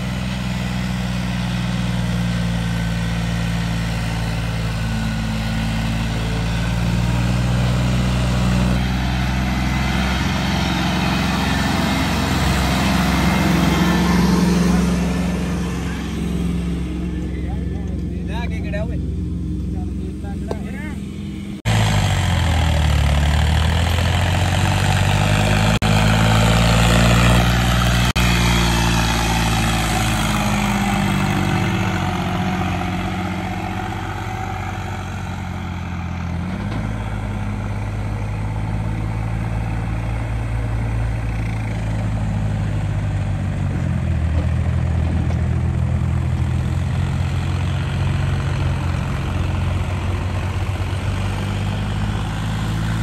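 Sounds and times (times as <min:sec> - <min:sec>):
diesel tractor engine running hard: 0:00.0 - 0:53.0.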